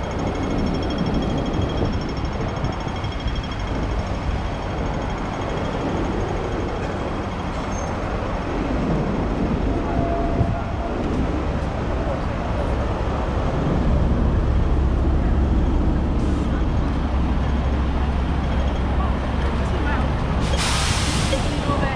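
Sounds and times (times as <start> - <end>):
traffic engines rumbling: 0.0 - 21.9.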